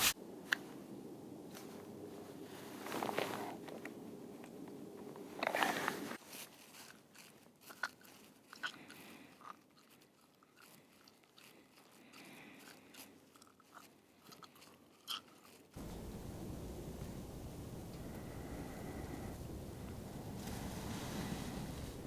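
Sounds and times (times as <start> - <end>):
faint crunches and clicks: 2.8 - 22.0.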